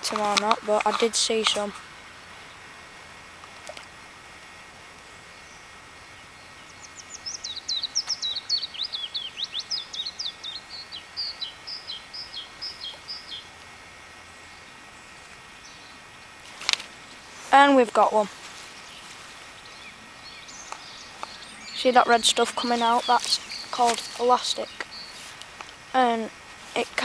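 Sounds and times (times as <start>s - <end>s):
faint outdoor hiss: 0.0s - 27.0s
songbird chirping: 5.2s - 27.0s.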